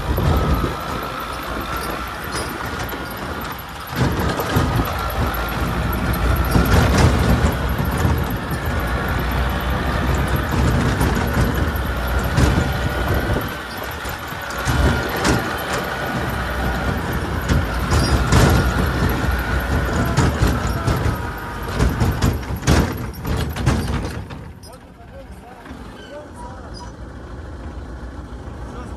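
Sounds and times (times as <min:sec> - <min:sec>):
metallic clatters and knocks: 0:00.0 - 0:25.9
tractor diesel engine running: 0:00.0 - 0:28.9.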